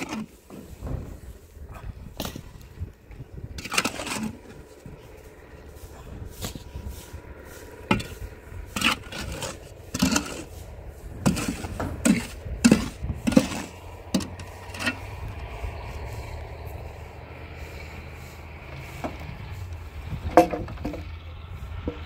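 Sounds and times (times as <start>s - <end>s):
hand tool scraping rough surface: 0.0s - 21.1s.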